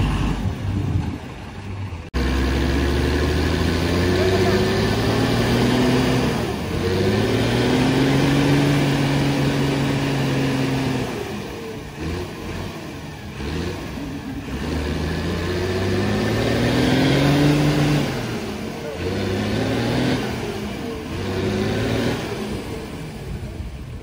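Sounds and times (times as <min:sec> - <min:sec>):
vehicle engine revving under load: 0:00.0 - 0:24.0.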